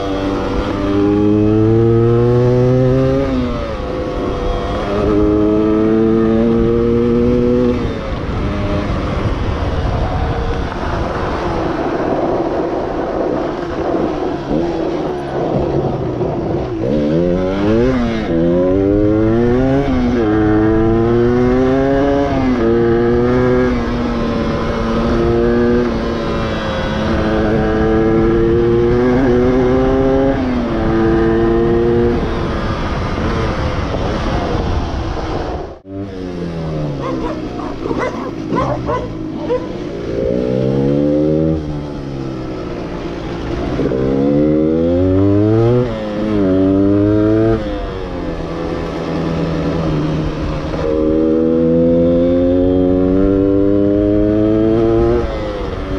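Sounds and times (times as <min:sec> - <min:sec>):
two-stroke motorcycle engine revving: 0:00.0 - 0:11.4, 0:12.0 - 0:34.9, 0:35.5 - 0:55.9.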